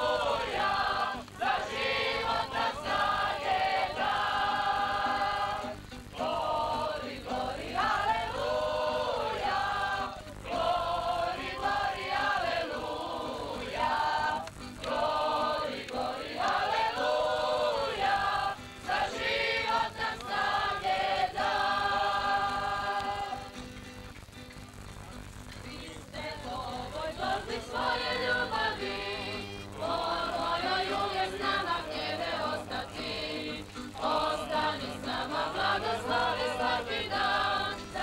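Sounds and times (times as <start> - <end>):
women singing together: 0.0 - 23.6, 25.6 - 38.0.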